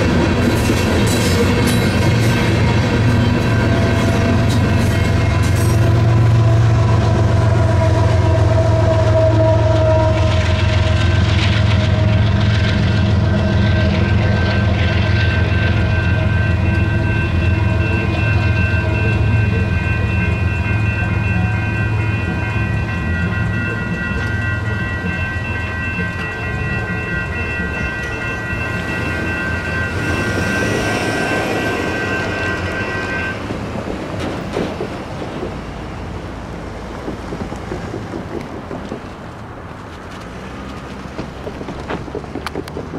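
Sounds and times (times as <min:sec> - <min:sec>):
railroad crossing electronic bells: 0:00.0 - 0:41.8
freight train rumble: 0:00.0 - 0:42.9.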